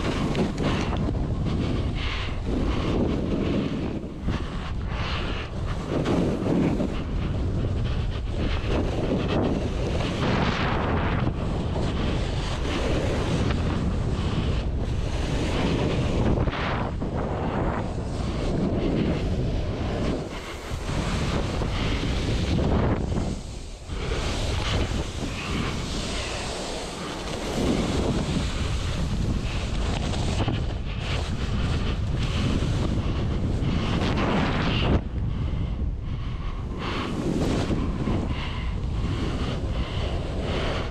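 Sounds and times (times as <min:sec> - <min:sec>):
snowboard hissing through snow: 0:00.0 - 0:35.0, 0:36.2 - 0:40.9
wind buffeting microphone: 0:00.0 - 0:40.9.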